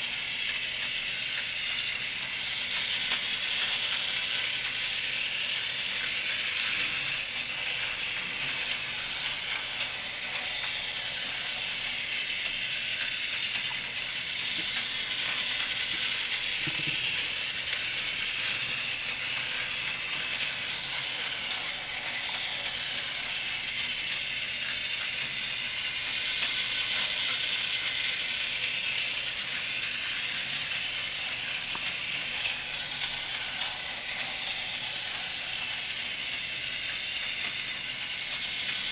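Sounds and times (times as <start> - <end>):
toy train whirring on track: 0.0 - 38.9.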